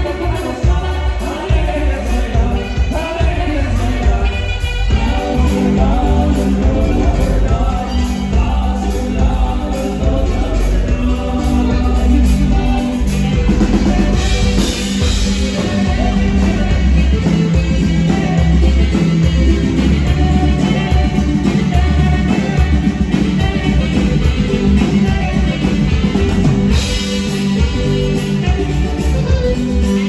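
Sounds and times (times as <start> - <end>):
bass line: 0.0 - 30.0
drum kit: 0.0 - 30.0
saxophone-led band playing: 0.0 - 30.0.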